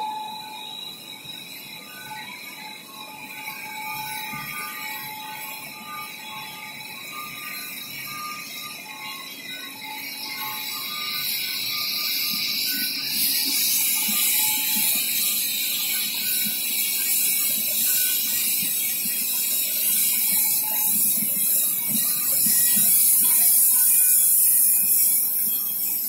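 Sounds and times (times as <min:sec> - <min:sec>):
machine steady high hiss: 0:00.0 - 0:26.0.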